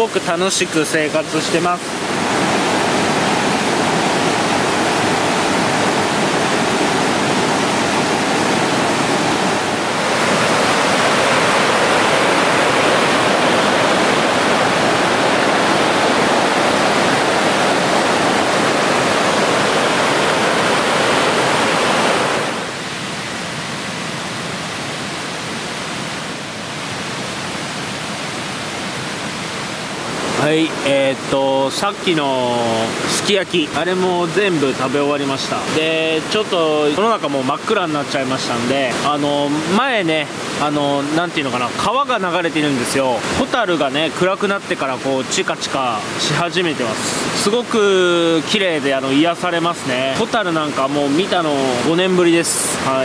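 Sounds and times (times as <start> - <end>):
rushing river water: 0.0 - 53.0.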